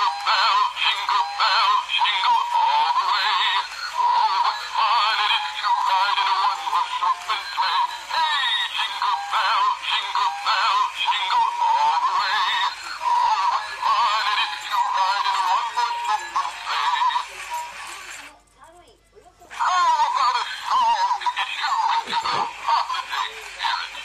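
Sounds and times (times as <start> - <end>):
toy playing electronic melody: 0.0 - 18.3, 19.5 - 24.0.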